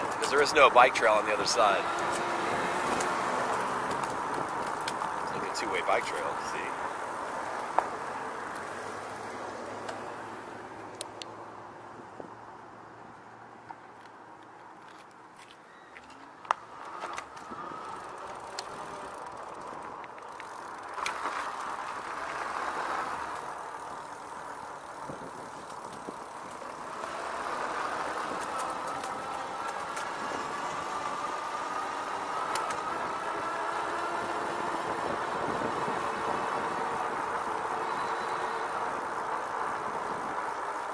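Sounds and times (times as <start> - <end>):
electric hub motor whining: 0.0 - 10.2, 16.2 - 40.9
tyre and wind noise: 0.0 - 11.2, 11.8 - 40.9.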